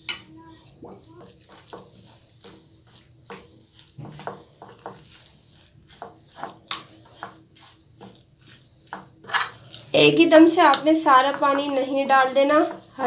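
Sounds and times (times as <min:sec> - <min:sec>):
metal spoon stirring in a bowl: 0:00.0 - 0:13.0.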